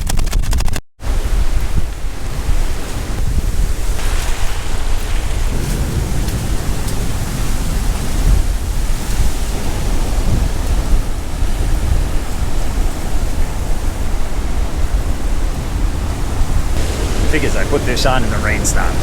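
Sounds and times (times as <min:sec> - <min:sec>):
storm surf: 0:01.0 - 0:19.0
storm wind buffeting microphone: 0:01.0 - 0:19.0.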